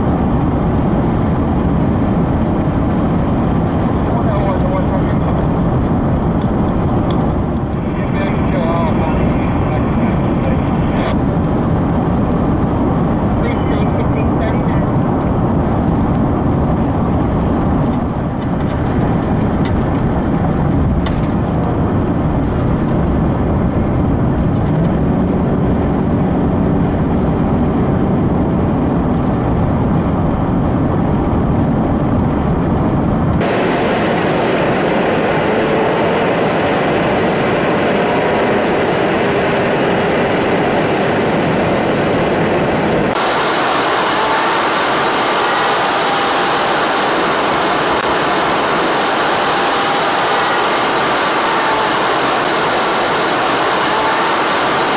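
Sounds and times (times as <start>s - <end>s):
car engine and tyre rumble: 0.0s - 54.9s
hissy road noise rush: 0.0s - 54.9s.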